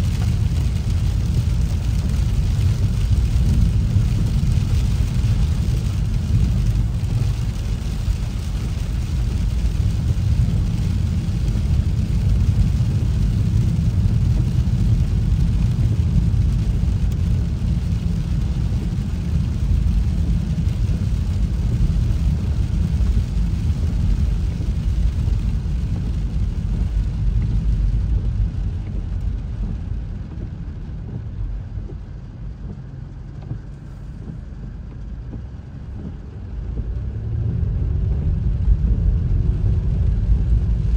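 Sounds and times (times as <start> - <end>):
car tyres and engine rumbling: 0.0 - 40.9.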